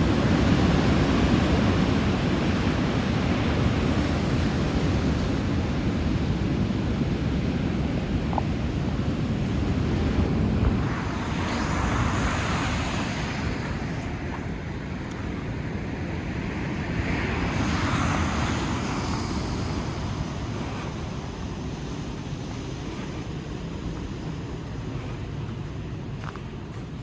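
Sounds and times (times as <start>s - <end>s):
waves breaking: 0.0s - 27.0s
wind rumbling on microphone: 0.0s - 27.0s.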